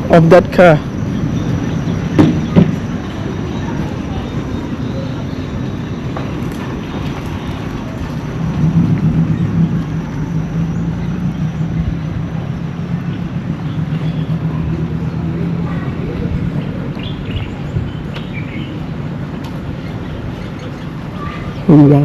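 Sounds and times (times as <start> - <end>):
street noise: 0.0 - 22.0
vehicle engine running: 0.0 - 22.0.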